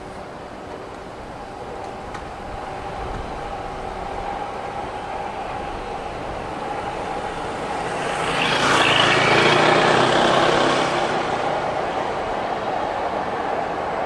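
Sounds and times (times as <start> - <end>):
train rushing and rumbling: 0.0 - 14.0.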